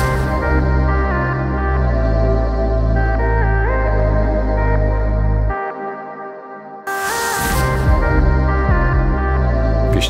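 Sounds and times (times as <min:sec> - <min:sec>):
sustained synthesizer notes: 0:00.0 - 0:10.0.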